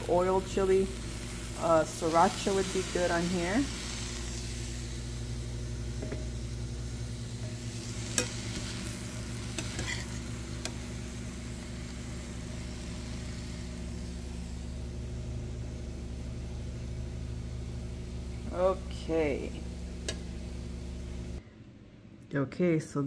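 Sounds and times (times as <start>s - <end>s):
food sizzling in a pan: 0.0s - 21.4s
low hum: 0.0s - 22.2s.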